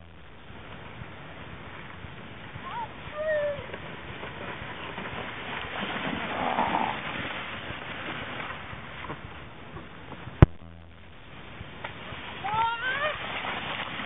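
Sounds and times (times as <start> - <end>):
plastic kayak scraping over snow: 0.6 - 10.4, 11.7 - 14.0.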